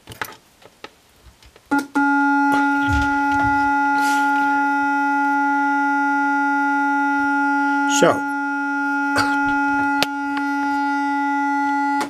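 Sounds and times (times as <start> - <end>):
buzzy distorted tone: 1.7 - 12.0.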